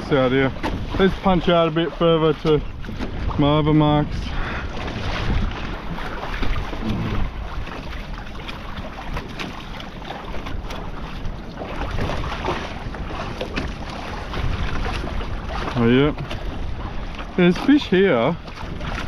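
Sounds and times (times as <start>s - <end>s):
water sloshing around kayak: 0.0s - 19.0s
wind buffeting microphone: 0.0s - 19.0s.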